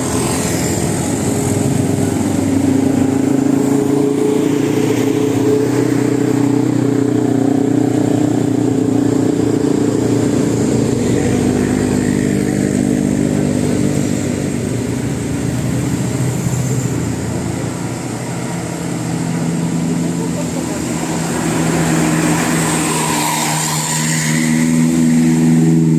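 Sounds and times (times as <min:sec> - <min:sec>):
vehicle engines in traffic: 0:00.0 - 0:25.9.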